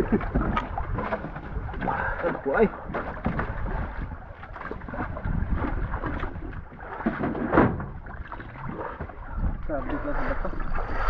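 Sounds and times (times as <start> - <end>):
water slapping against boat hull: 0.0 - 11.0.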